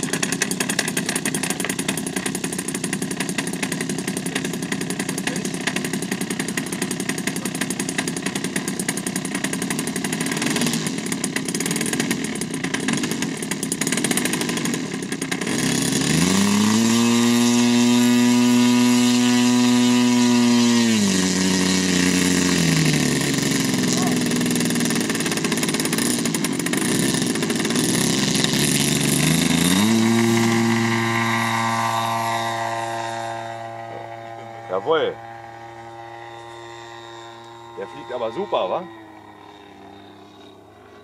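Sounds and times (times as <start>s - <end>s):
model airplane engine running: 0.0s - 41.0s.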